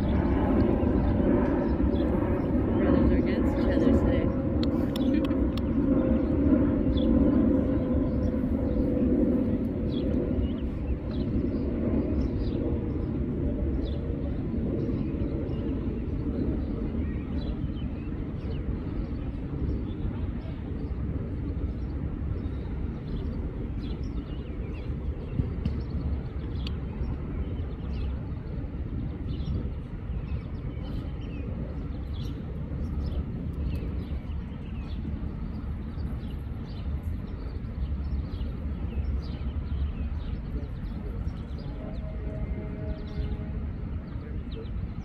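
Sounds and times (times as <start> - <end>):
steady low rumble: 0.0 - 45.0.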